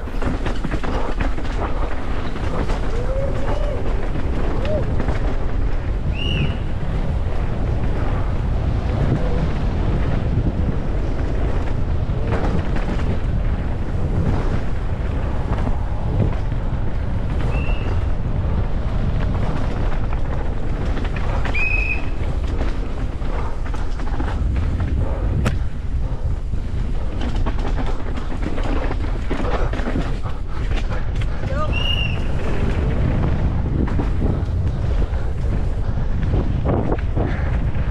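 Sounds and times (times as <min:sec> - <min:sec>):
wind on microphone: 0:00.0 - 0:37.9.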